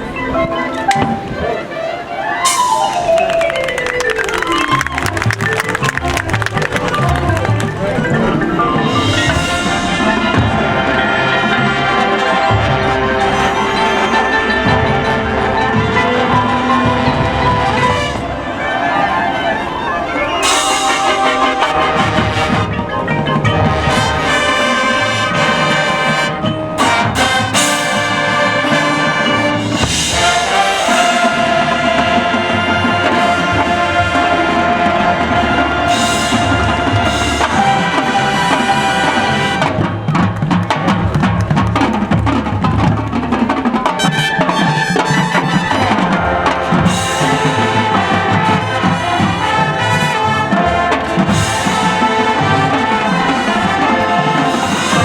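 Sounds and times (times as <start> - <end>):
brass chords: 0.0 - 55.0
drumline percussion: 0.0 - 55.0.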